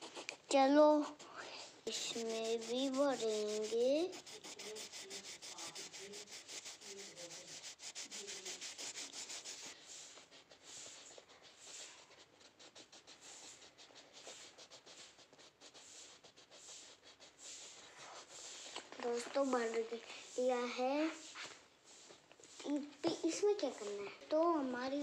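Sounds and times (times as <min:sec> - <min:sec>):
crayon scribbling on paper: 0:00.0 - 0:25.0.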